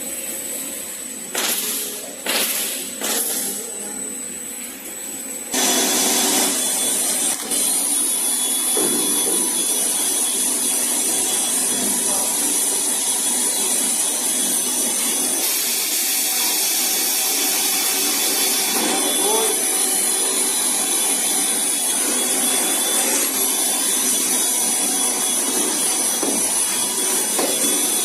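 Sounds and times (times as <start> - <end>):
air machine blowing loud hiss: 5.5 - 28.0.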